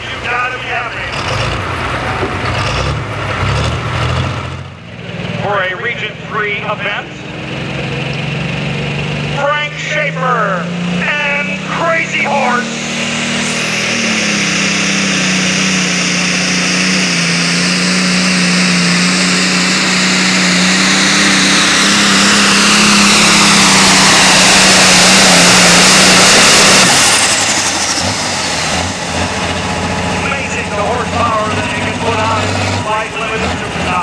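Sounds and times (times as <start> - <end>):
diesel engine at full throttle: 0.0 - 34.0
high turbo whine: 0.0 - 34.0.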